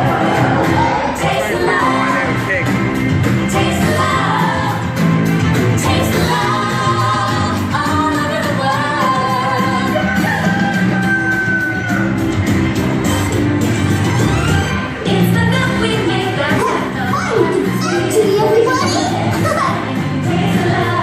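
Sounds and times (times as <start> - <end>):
pop song over speakers: 0.0 - 21.0.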